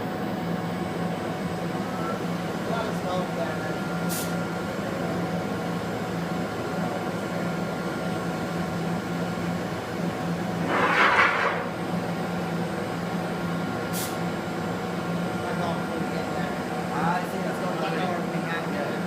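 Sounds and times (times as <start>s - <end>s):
machine hum with whine: 0.0s - 19.0s.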